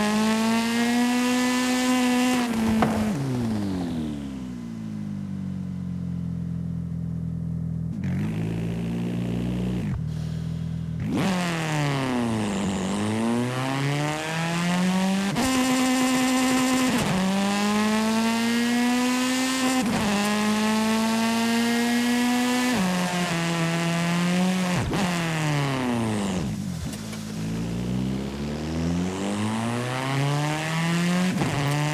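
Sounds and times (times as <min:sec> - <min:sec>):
video game car engine accelerating: 0:00.0 - 0:31.9.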